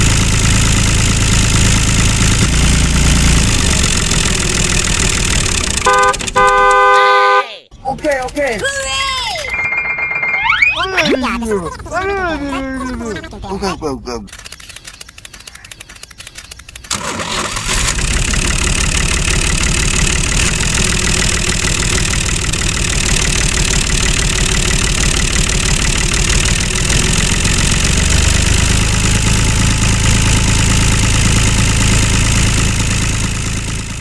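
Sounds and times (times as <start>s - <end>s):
model tractor engine running: 0.0s - 7.0s, 13.6s - 34.0s.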